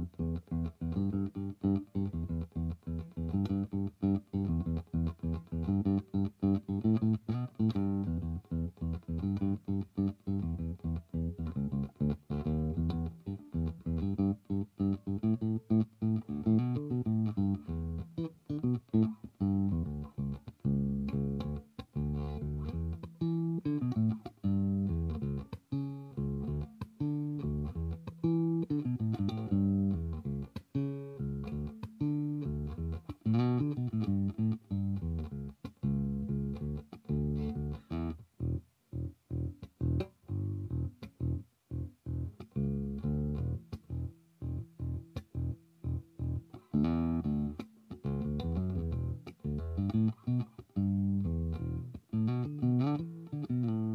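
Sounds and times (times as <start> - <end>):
electric bass plucked notes: 0.0 - 53.9.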